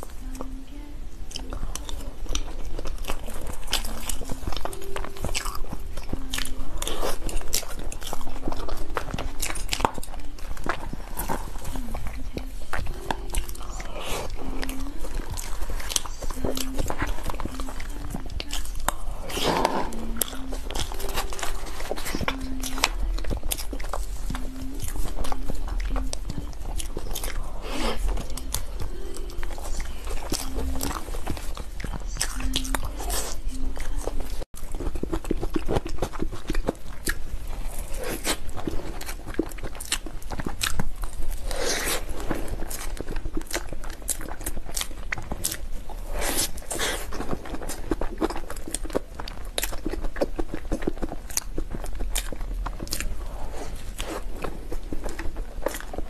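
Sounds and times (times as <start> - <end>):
wet chewing with mouth clicks: 0.0 - 56.0.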